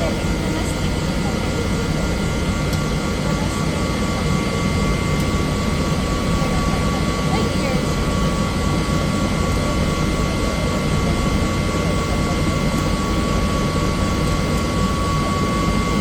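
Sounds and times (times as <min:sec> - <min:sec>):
helicopter engine and rotor noise: 0:00.0 - 0:16.0
high steady whine: 0:00.0 - 0:16.0.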